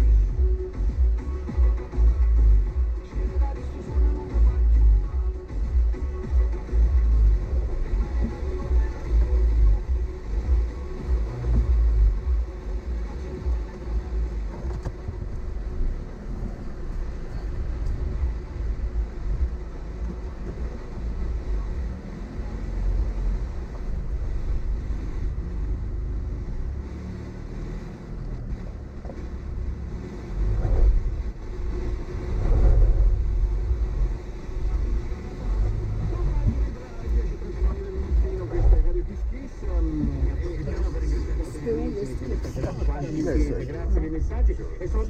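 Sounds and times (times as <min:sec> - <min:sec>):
car engine running: 0:00.0 - 0:45.0
rumble of tyres and suspension: 0:00.0 - 0:45.0.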